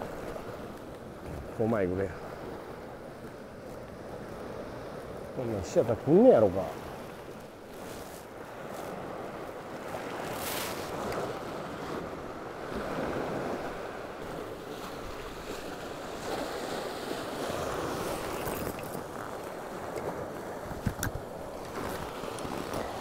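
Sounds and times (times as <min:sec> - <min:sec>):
surf washing against rocks: 0:00.0 - 0:23.0.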